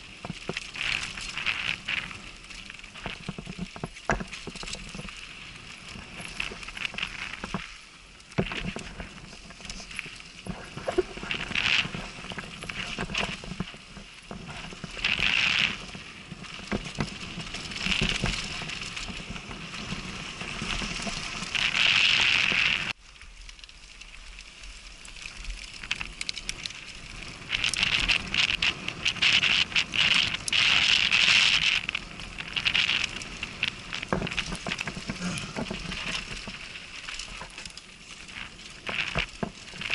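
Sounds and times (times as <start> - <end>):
bike rattling over bumps: 0.0 - 23.0, 24.5 - 39.9
bike tyres on loose gravel: 0.0 - 39.9.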